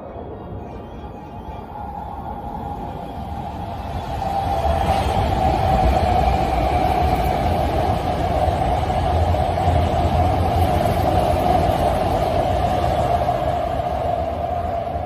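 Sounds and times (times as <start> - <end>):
electric train passing at speed: 0.0 - 15.0
train whine: 0.0 - 15.0.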